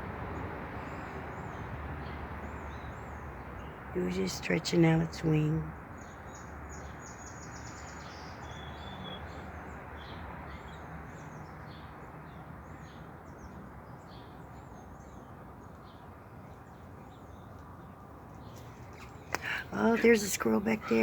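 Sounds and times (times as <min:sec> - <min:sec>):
small birds chirping: 0:00.8 - 0:21.0.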